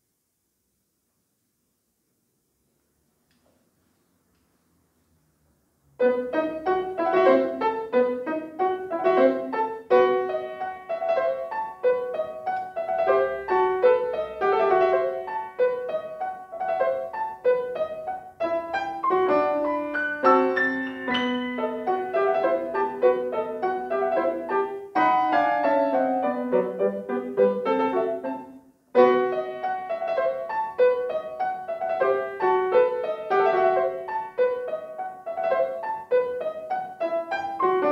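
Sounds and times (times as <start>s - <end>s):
grand piano classical piece: 5.9s - 37.9s.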